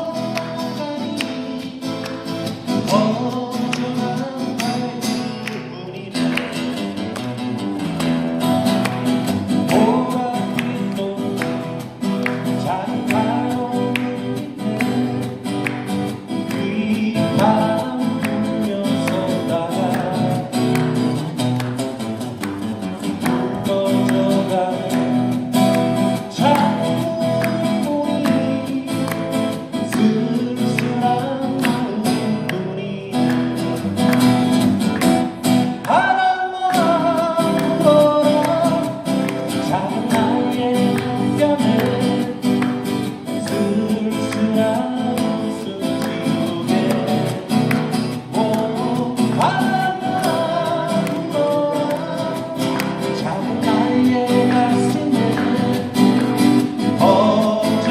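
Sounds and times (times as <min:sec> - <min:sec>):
acoustic guitars playing folk: 0:00.0 - 0:57.9.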